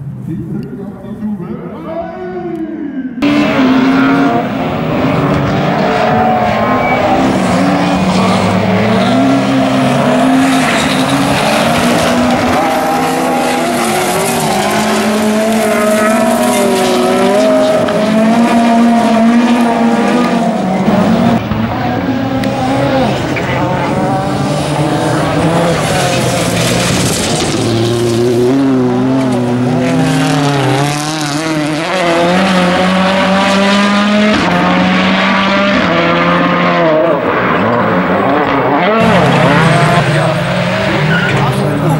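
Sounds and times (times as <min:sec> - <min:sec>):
racing car engines revving: 0:03.0 - 0:41.9.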